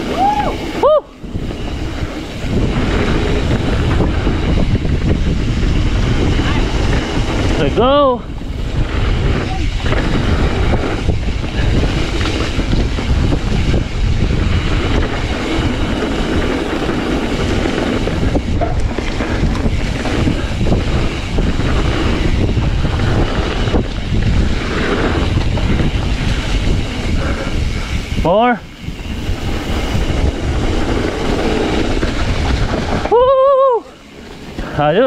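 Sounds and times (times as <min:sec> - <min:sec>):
bike rattling over bumps: 0:00.0 - 0:35.0
tyres rolling on dirt: 0:00.0 - 0:35.0
wind rushing over microphone: 0:00.0 - 0:35.0.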